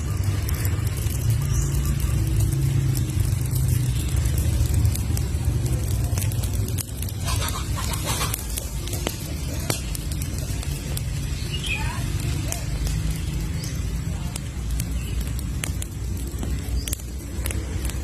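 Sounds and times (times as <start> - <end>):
campfire crackling and popping: 0.0 - 18.0
low fire rumble: 0.0 - 18.0.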